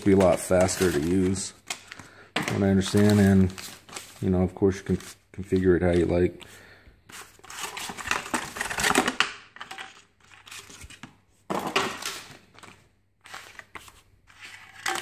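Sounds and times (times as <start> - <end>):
plastic and cardboard rustling: 0.0 - 15.0.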